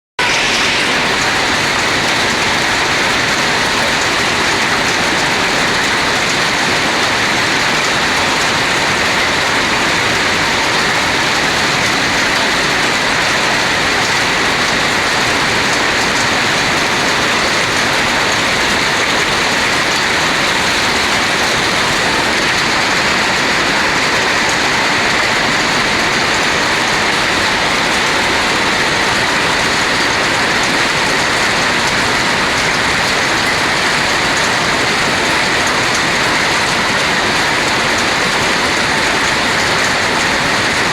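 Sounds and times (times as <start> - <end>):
heavy rain falling: 0.2 - 40.9.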